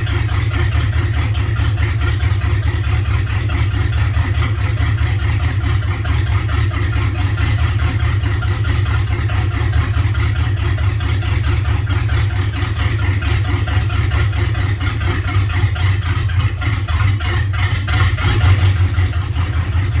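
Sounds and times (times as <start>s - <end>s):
engine idling roughly: 0.0s - 20.0s.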